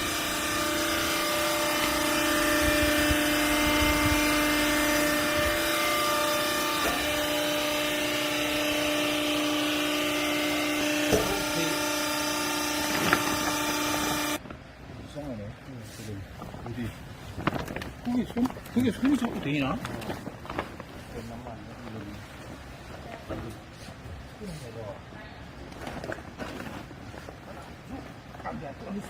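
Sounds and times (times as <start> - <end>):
hydraulic power unit whining hum: 0.0 - 25.2.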